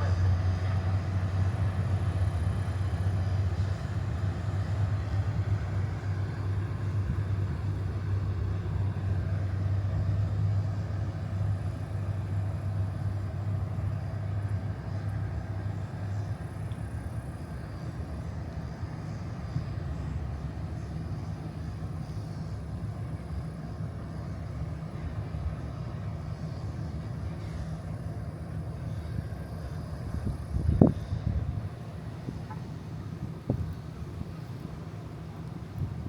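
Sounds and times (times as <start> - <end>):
engine droning: 0.0 - 36.0.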